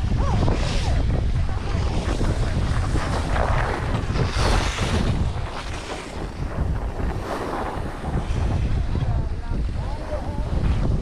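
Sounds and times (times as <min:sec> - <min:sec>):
wind buffeting microphone: 0:00.0 - 0:11.0
skis scraping over snow: 0:00.3 - 0:11.0.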